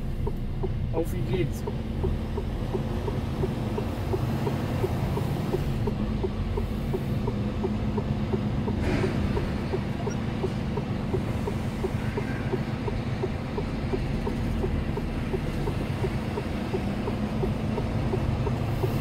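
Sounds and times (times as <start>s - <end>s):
diesel truck engine drone: 0.0s - 19.0s
light ticking: 0.1s - 19.0s.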